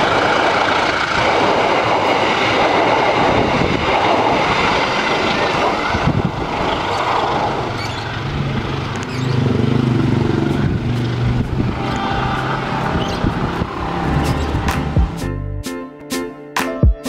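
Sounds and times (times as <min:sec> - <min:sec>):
train wheel and track noise: 0:00.0 - 0:15.3
low engine hum: 0:00.0 - 0:15.6.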